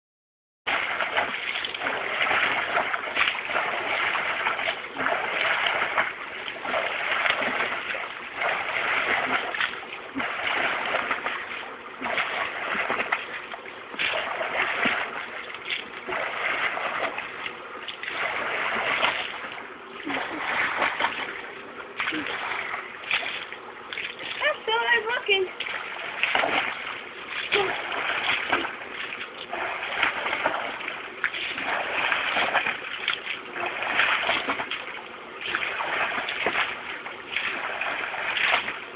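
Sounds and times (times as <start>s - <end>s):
pool water splashing: 0.7s - 38.9s.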